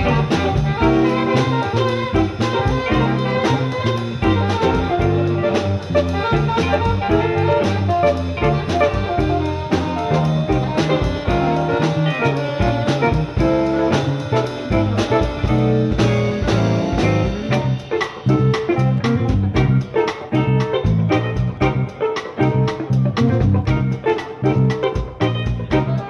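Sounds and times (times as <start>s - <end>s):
bass: 0.0s - 26.0s
drum kit: 0.0s - 26.0s
guitar: 0.0s - 26.0s.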